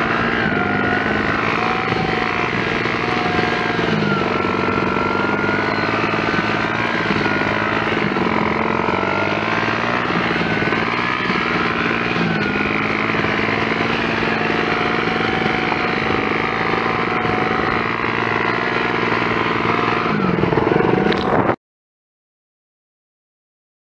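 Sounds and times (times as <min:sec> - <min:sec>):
small motorcycle engine running: 0:00.0 - 0:21.6.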